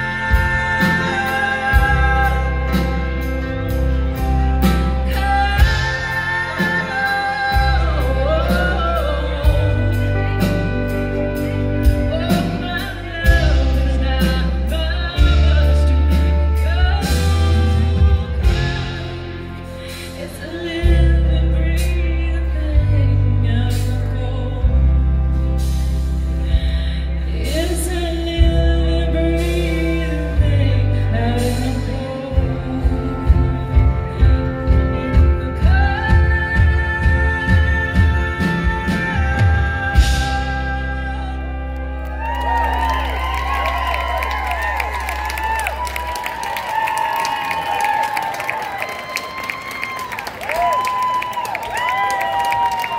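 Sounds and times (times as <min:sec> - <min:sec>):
person singing: 0:00.0 - 0:25.6, 0:26.4 - 0:46.1
bass: 0:00.0 - 0:52.9
electric guitars: 0:00.0 - 0:52.9
live band playing: 0:00.0 - 0:52.9.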